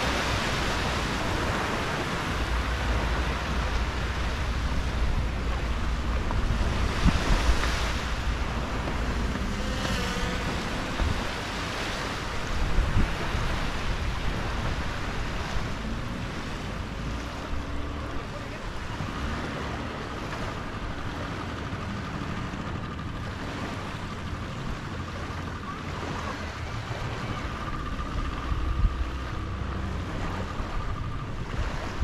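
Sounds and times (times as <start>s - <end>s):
small waves washing on sand: 0.0s - 28.5s, 29.1s - 32.0s.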